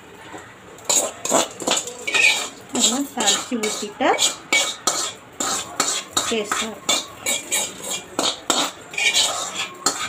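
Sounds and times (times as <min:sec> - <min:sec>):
metal spoon scraping steel pan: 0:00.9 - 0:10.0.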